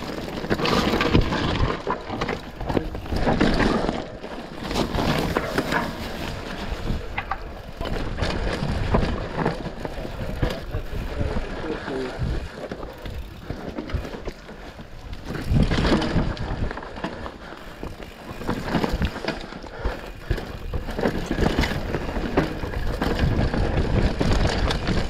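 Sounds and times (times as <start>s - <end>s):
bike rattling over bumps: 0.0s - 25.0s
bike tyres crunching on dirt: 0.0s - 25.0s.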